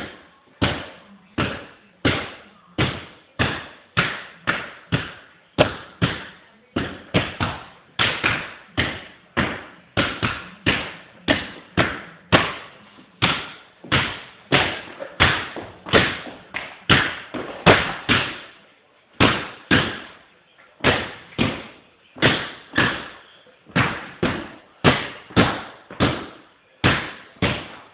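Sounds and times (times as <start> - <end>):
basketball bouncing on hardwood floor: 0.0 - 18.5, 19.2 - 20.2, 20.8 - 27.9.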